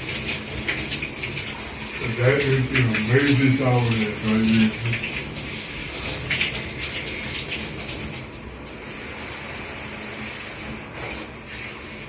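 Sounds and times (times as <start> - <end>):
shower spraying into bathtub: 0.0 - 12.0.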